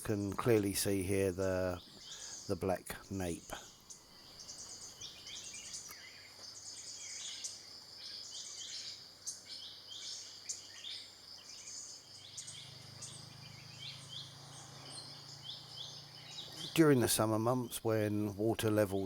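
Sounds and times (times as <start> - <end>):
insect drone: 0.0 - 19.0
small birds chirping: 0.0 - 19.0.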